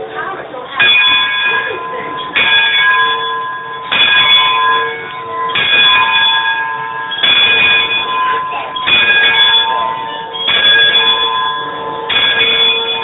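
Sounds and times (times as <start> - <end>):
ship's bell ringing: 0.0 - 13.0.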